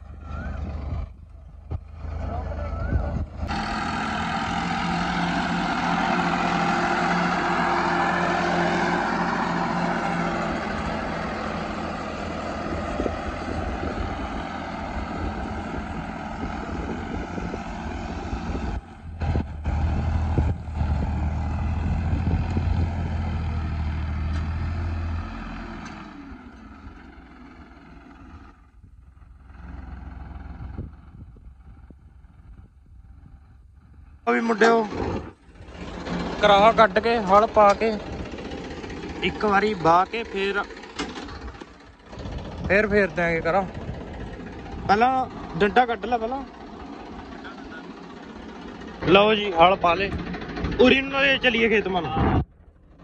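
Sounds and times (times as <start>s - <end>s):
diesel tractor engine: 0.0s - 53.0s.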